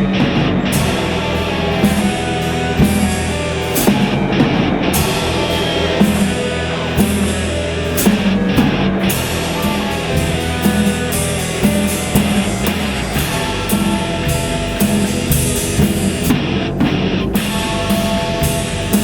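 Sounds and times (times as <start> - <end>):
distorted electric guitar: 0.0 - 19.0
drum kit beat: 0.0 - 19.0.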